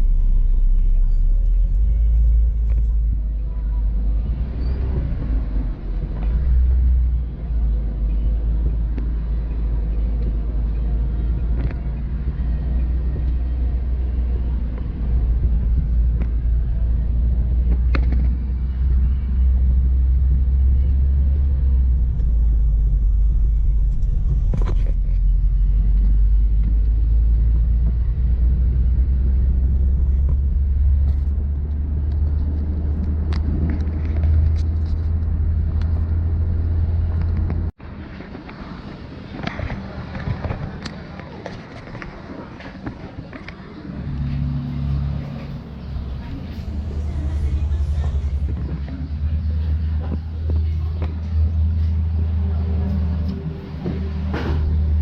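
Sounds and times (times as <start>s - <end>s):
road and engine rumble in car: 0.0s - 55.0s.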